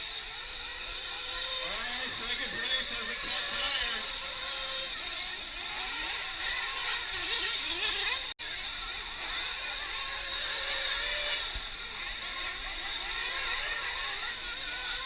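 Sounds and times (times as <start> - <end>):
rc nitro engines whining: 0.0 - 15.0.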